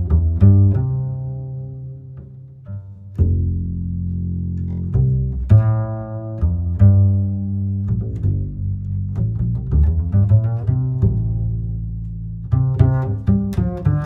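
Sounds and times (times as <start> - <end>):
low bass string music: 0.0 - 14.0.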